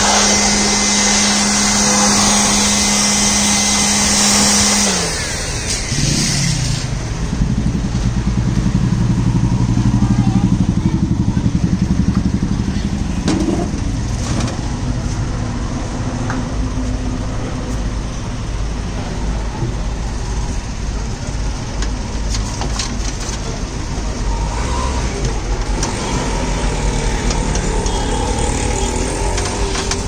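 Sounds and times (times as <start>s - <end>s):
engine rumbling: 0.0s - 30.0s.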